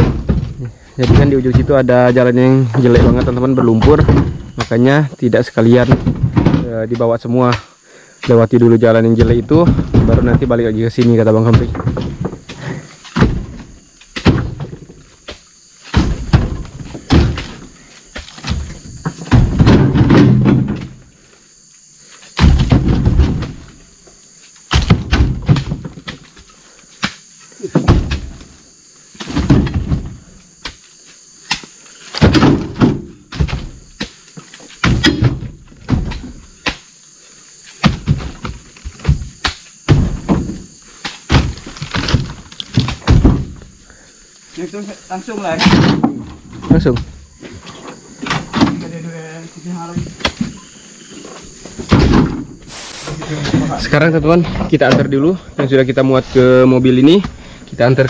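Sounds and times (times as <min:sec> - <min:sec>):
dull thumps of fruit bunches loaded: 0:00.0 - 0:07.6, 0:08.3 - 0:21.1, 0:22.2 - 0:30.8, 0:31.5 - 0:36.8, 0:37.6 - 0:58.0
insects droning: 0:00.0 - 0:58.0.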